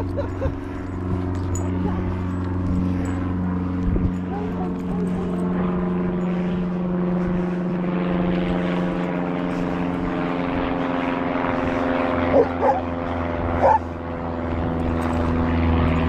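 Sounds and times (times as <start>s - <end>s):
propeller aircraft engine droning: 0.0s - 16.0s.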